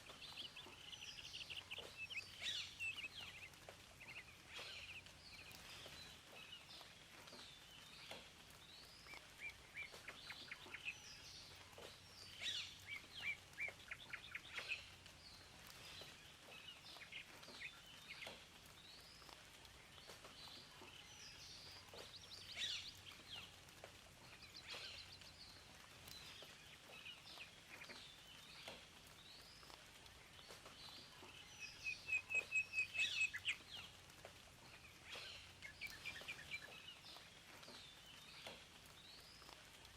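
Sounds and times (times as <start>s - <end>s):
faint steady background hiss: 0.0s - 39.9s
songbirds chirping and singing: 0.0s - 39.9s.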